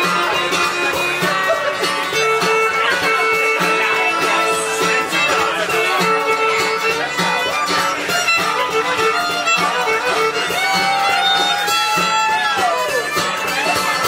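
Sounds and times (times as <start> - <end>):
fiddle melody: 0.0 - 14.0
live band dance tune: 0.0 - 14.0.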